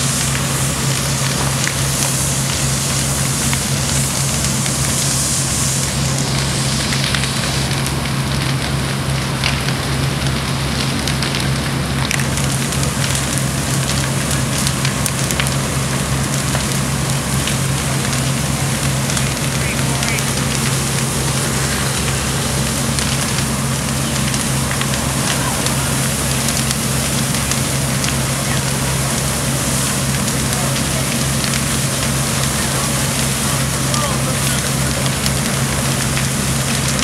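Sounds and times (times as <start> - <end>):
fire crackling and popping: 0.0 - 37.0
fire engines droning: 0.0 - 37.0.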